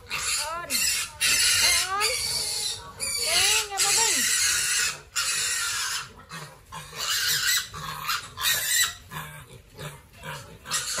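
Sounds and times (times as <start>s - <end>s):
piglets chewing and snuffling: 0.0s - 11.0s
piglets grunting: 0.0s - 11.0s.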